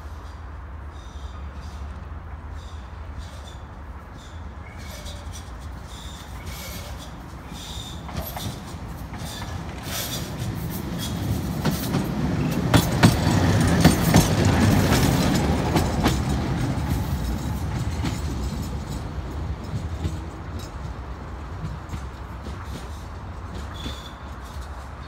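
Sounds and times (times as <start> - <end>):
tram rumbling past: 0.0 - 25.0
wheels clicking on rails: 4.2 - 25.0.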